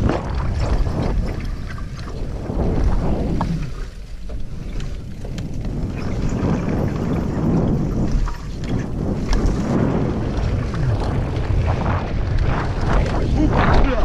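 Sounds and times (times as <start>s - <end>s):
bike tyres rolling on dirt trail: 0.0s - 14.0s
wind buffeting microphone: 0.0s - 14.0s.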